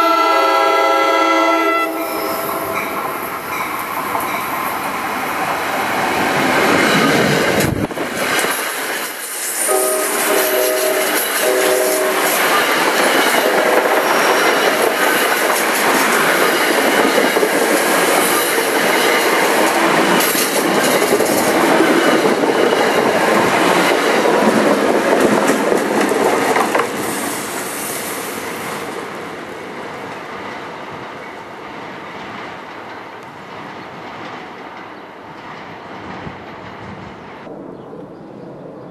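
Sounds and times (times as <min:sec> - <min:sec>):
train wheels running on rails: 0:02.2 - 0:37.5.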